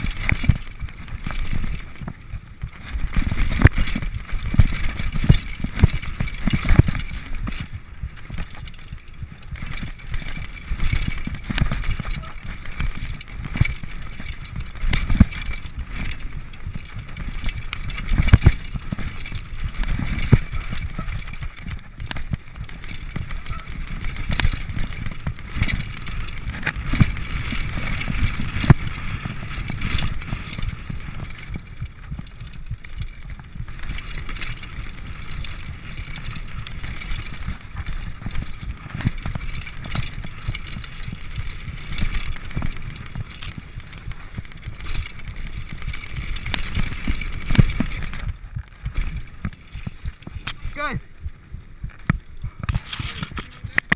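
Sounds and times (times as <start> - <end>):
bike knocking and clattering: 0.0 - 53.9
bike tyres rumbling on dirt: 0.0 - 53.9
wind on microphone: 0.0 - 53.9.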